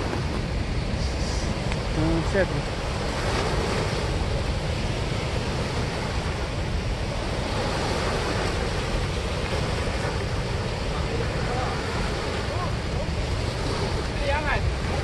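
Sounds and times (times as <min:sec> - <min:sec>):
water rushing through spillway: 0:00.0 - 0:15.0.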